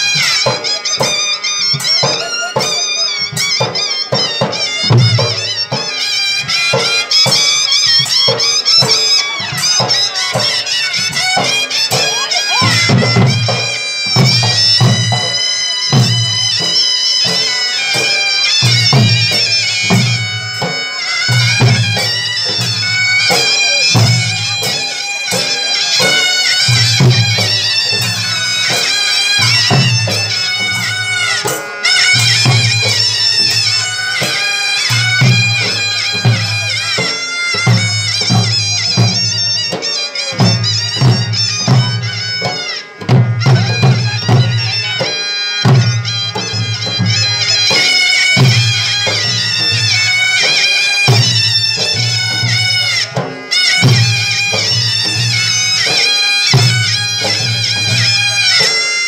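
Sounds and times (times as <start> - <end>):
shrill reed pipe melody: 0.0 - 59.0.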